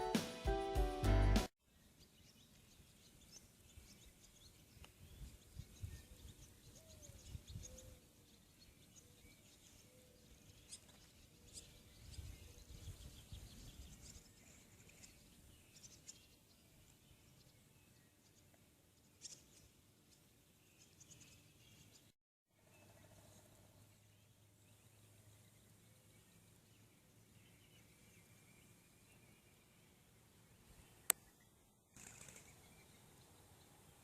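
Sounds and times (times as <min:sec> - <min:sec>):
small birds chirping: 0:01.7 - 0:34.0.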